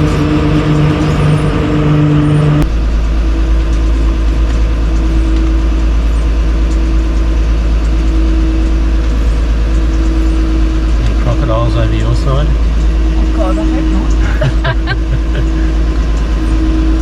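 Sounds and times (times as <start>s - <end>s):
deep low rumble: 0.0s - 17.0s
engine humming: 0.0s - 17.0s.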